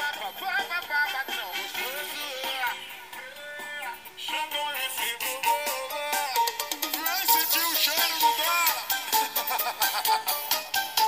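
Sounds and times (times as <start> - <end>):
music through small speaker: 0.0 - 11.0.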